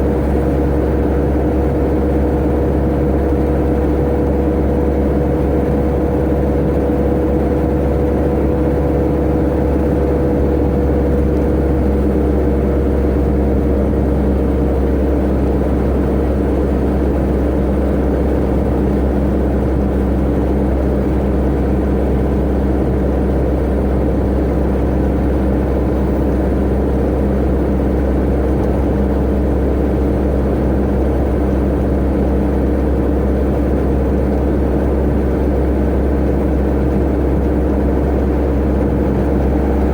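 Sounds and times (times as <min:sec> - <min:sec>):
low road rumble: 0:00.0 - 0:39.9
truck engine running: 0:00.0 - 0:39.9.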